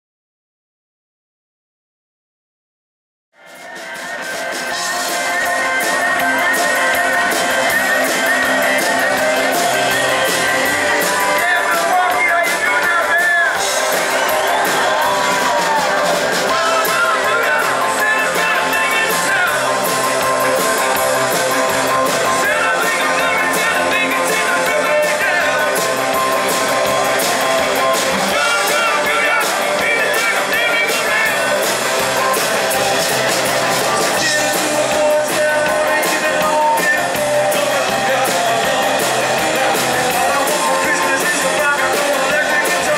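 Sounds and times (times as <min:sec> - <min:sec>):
drums: 0:03.3 - 0:42.9
live rock band playing: 0:03.4 - 0:42.9
electric guitars: 0:03.5 - 0:42.9
person singing: 0:03.6 - 0:42.9.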